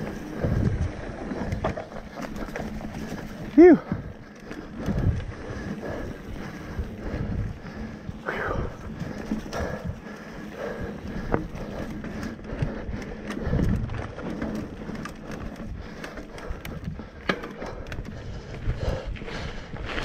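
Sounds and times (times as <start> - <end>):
bike tyres rumbling on dirt: 0.0 - 20.0.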